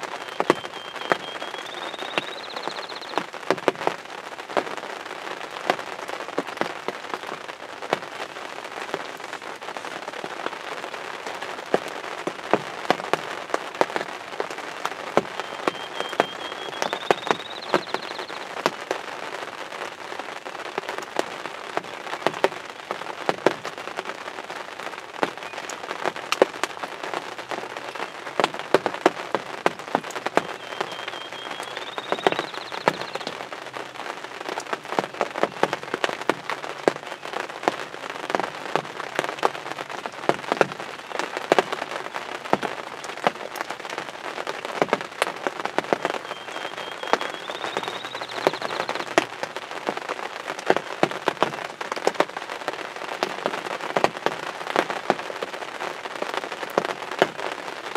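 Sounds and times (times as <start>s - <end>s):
heavy raindrops tapping: 0.0s - 57.9s
rain hissing: 0.0s - 57.9s.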